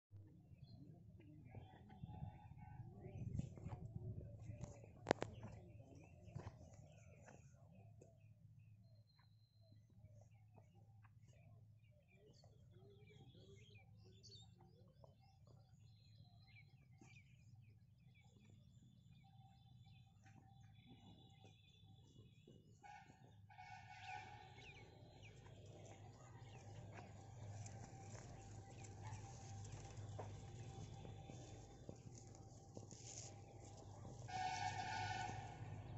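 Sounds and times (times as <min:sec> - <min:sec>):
small birds chirping: 0:03.2 - 0:34.8.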